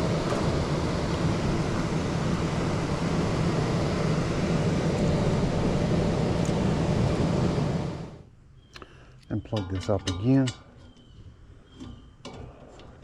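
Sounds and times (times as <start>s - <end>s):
blower fan droning: 0.0s - 13.0s.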